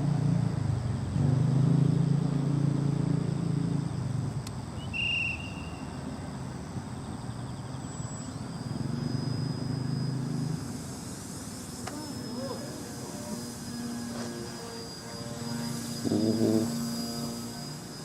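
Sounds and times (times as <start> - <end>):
model airplane engine drone: 0.0 - 18.0.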